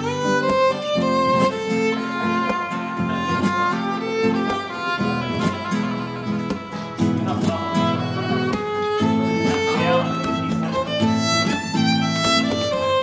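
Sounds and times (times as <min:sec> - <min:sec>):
fiddle melody: 0:00.0 - 0:13.0
strummed guitar chords: 0:00.0 - 0:13.0.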